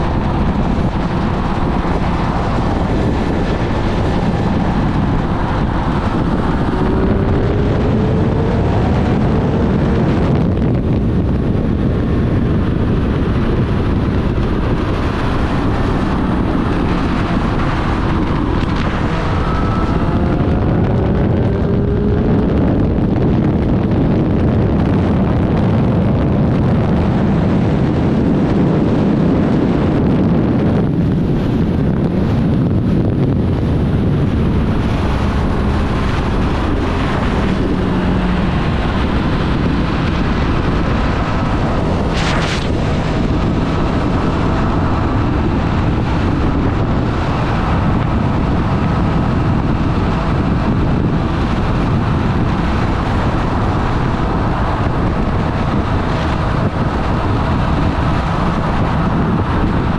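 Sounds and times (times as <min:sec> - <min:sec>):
motorcycle engine running: 0:00.0 - 0:59.9
wind rush on microphone: 0:00.0 - 0:59.9.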